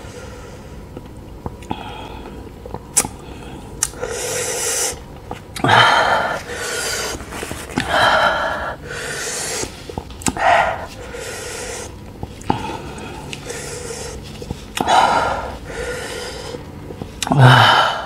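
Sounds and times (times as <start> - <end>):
person breathing hard: 0.0 - 0.9, 3.2 - 5.0, 5.6 - 18.0.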